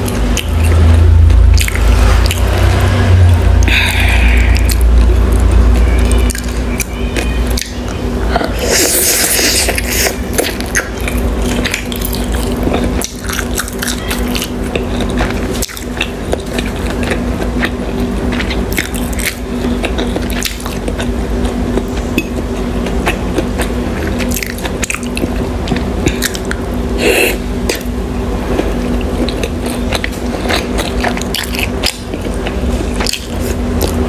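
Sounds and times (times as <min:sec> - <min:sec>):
steady low hum: 0:00.0 - 0:34.0
wet chewing: 0:00.0 - 0:34.0.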